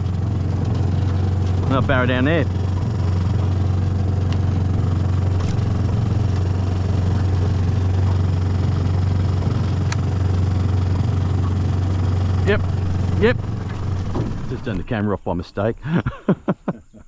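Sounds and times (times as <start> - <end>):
outboard motor running: 0.0 - 15.1.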